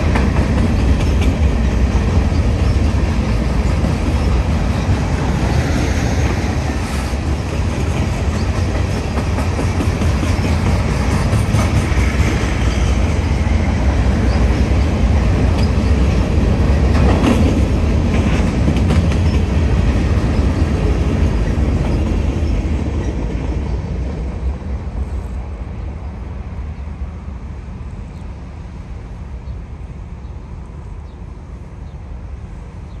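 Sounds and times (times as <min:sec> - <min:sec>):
freight train cars rolling: 0:00.0 - 0:33.0.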